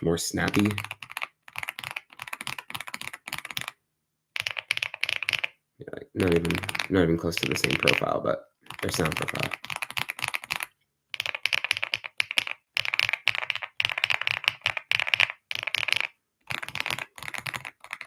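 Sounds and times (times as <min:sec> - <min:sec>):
mechanical keyboard typing: 0:00.4 - 0:03.8, 0:04.4 - 0:05.5, 0:06.2 - 0:18.0.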